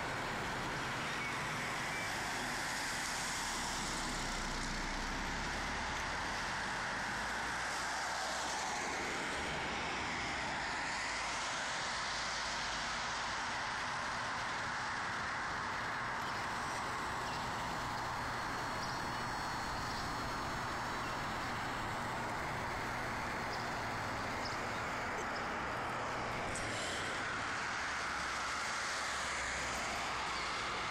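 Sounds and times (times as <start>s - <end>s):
cars passing on street: 0.0s - 30.9s.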